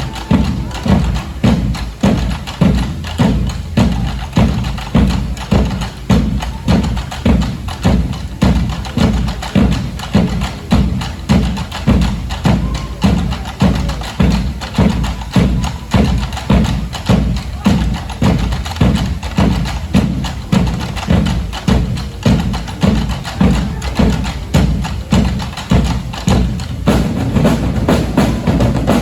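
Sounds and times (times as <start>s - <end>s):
drum and wood-block strikes: 0.0s - 29.0s
heavy low drum beat: 0.0s - 29.0s.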